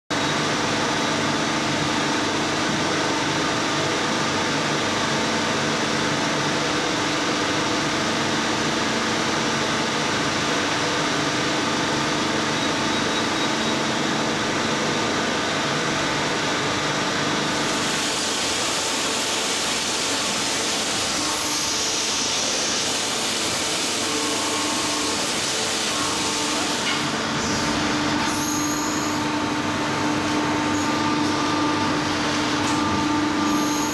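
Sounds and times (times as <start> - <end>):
workshop machinery humming: 0.1 - 33.9.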